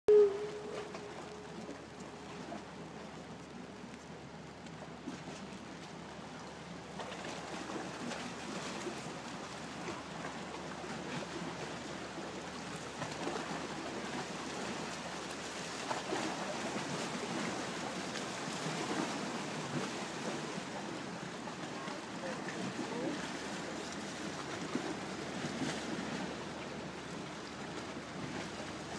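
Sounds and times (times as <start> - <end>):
paddle wheels churning water: 0.1 - 28.9.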